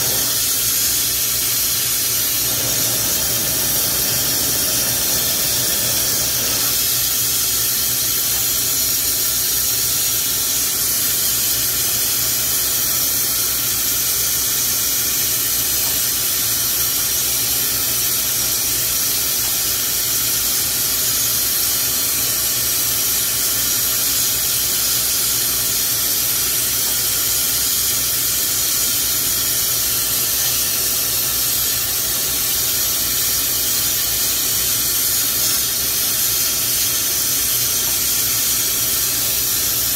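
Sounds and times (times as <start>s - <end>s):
torch flame hissing: 0.0s - 12.8s, 20.4s - 39.9s.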